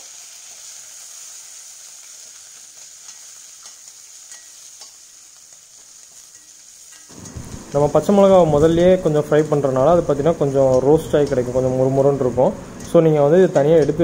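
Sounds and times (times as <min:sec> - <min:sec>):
frying hiss in oil: 0:00.0 - 0:14.0.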